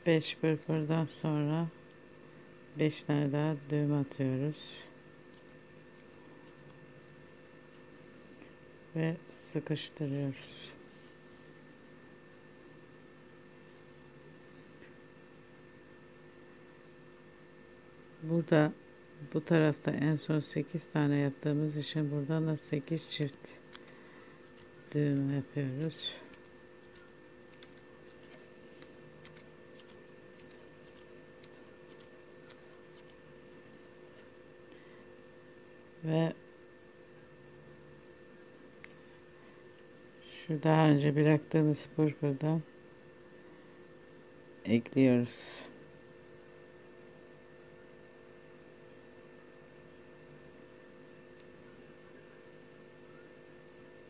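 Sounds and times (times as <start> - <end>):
faint electrical hum: 0.0 - 54.0.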